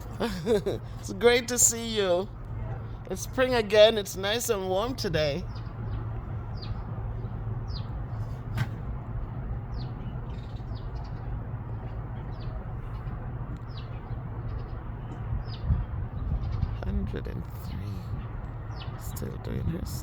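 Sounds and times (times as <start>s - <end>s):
small birds chirping: 0.0s - 8.6s, 9.2s - 20.0s
low background rumble: 0.0s - 20.0s.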